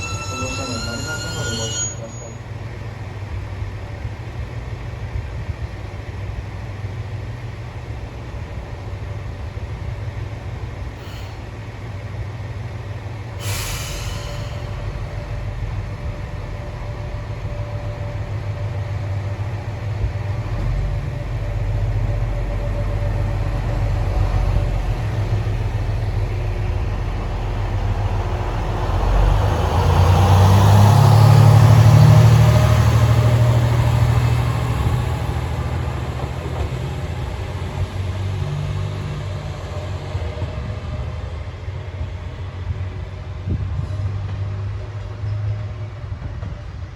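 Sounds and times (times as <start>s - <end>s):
diesel railcar engine humming: 0.0s - 46.9s
railcar rolling noise: 0.0s - 46.9s.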